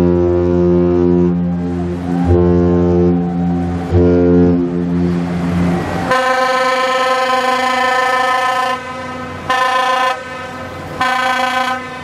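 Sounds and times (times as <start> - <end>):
deep ship's horn: 0.0 - 12.0
higher ship's horn blasts: 0.0 - 12.0.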